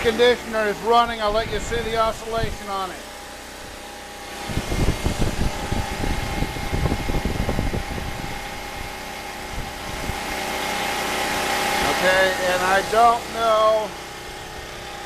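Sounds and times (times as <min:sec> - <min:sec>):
air conditioner fan hum: 0:00.0 - 0:15.0.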